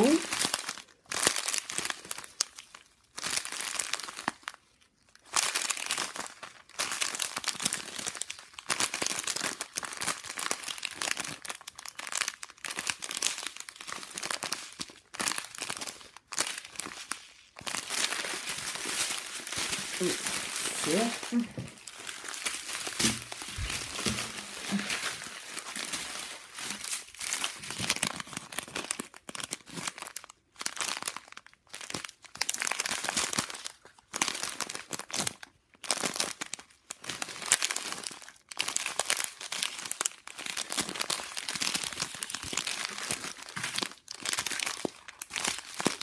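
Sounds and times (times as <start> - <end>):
plastic bags crinkling: 0.0 - 46.0.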